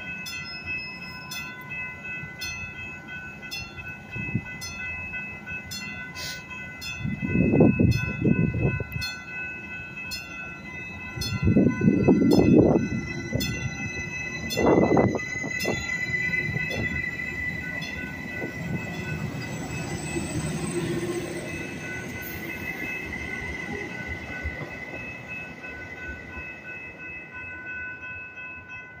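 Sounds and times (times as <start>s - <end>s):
steady high-pitched tone: 0.0s - 28.8s
train engine: 0.0s - 29.0s
train wheels on rails: 0.0s - 29.0s.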